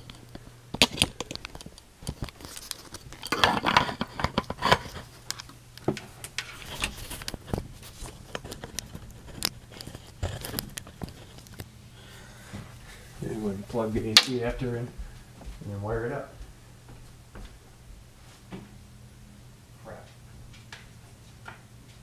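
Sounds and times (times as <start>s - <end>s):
faint steady low hum: 0.0s - 22.0s.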